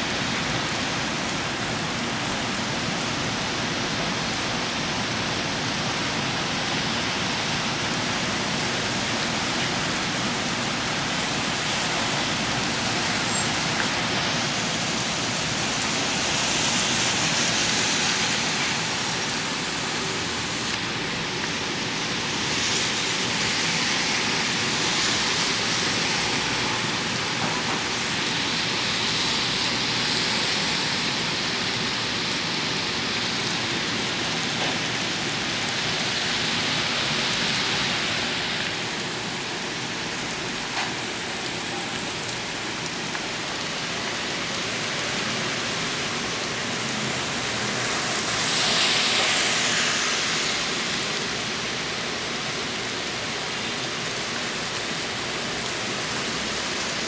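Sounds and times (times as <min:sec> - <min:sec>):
rain on pavement and cars: 0:00.0 - 0:57.0.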